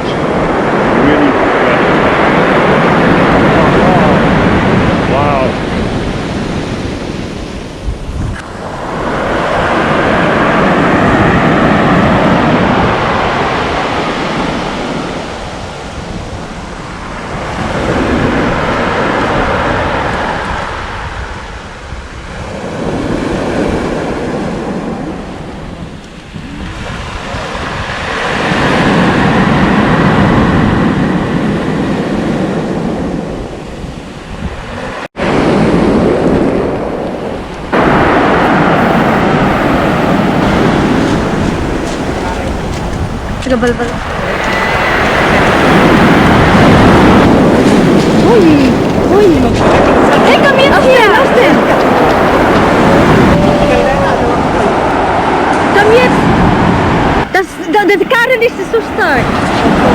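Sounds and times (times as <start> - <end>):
waves on stony beach: 0.0 - 59.9
wind buffeting microphone: 0.0 - 59.9.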